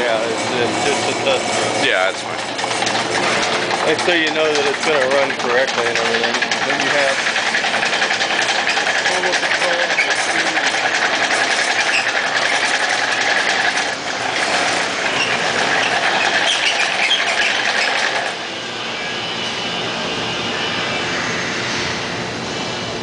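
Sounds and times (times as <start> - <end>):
gantry motors whirring with clicking: 0.0 - 18.4.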